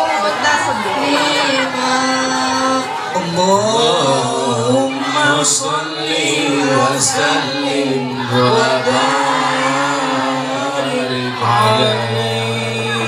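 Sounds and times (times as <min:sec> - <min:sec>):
voices singing devotional song: 0:00.0 - 0:13.0.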